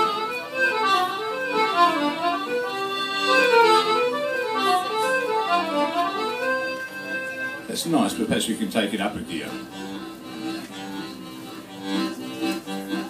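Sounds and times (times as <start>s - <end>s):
accordion playing samba: 0.0s - 13.0s.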